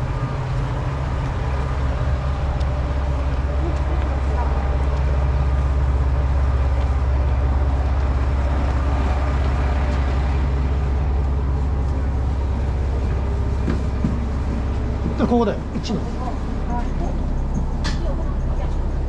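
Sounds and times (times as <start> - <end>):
diesel railcar engine idling: 0.0 - 19.0.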